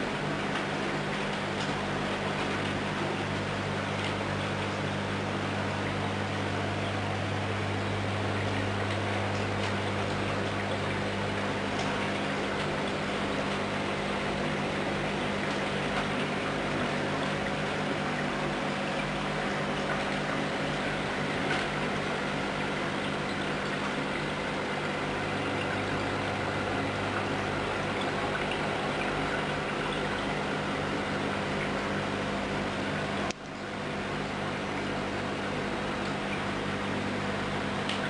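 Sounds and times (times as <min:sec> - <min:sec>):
aquarium equipment humming: 0:00.0 - 0:38.0
water trickling and splashing: 0:05.6 - 0:36.7.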